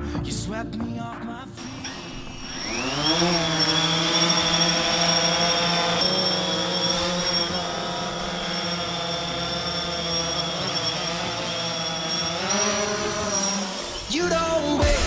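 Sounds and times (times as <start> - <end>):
drone propellers whining: 1.6 - 14.8.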